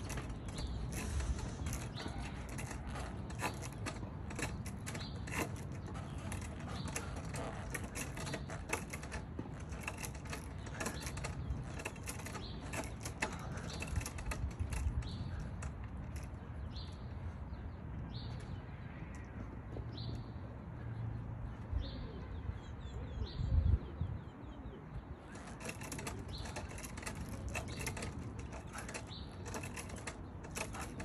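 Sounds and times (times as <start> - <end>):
bird calls: 0.0 - 31.0.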